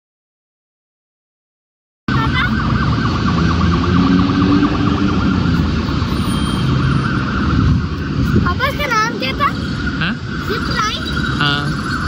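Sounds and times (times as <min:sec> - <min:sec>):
emergency vehicle siren wavering: 0:02.1 - 0:12.0
road traffic rumble: 0:02.1 - 0:12.0.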